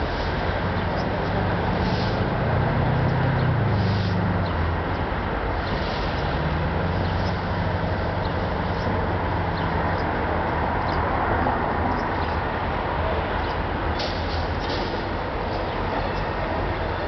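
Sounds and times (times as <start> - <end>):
engine hum: 0.0 - 17.0
road traffic noise: 0.0 - 17.0.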